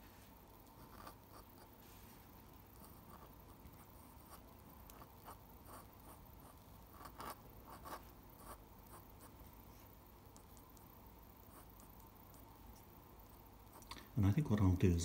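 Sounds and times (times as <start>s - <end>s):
pen nib scratching on paper: 0.6s - 1.8s, 2.6s - 13.9s.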